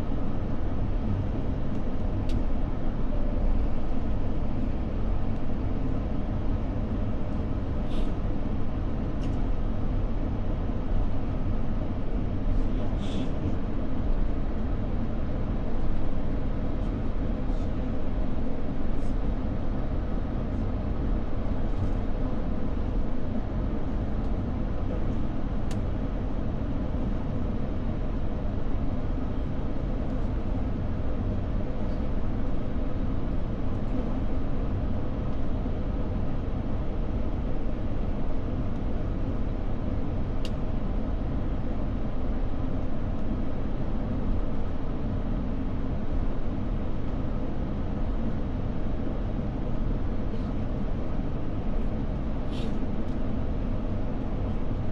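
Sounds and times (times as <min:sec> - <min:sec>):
jet engines idling low rumble: 0:00.0 - 0:54.9.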